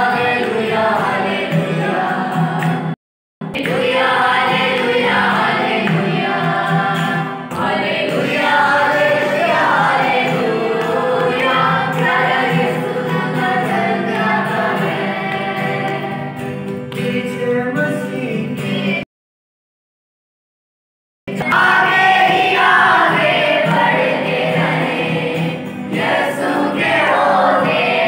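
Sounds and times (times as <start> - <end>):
group singing devotional song: 0.0 - 19.0, 21.4 - 28.0.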